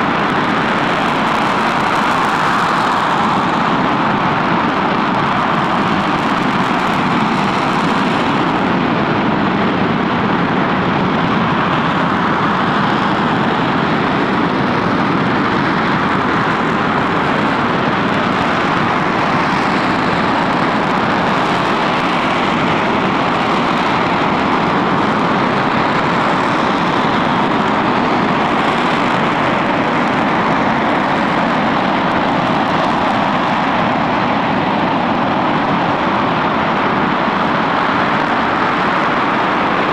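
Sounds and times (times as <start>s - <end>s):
rocket engine firing: 0.0s - 39.9s.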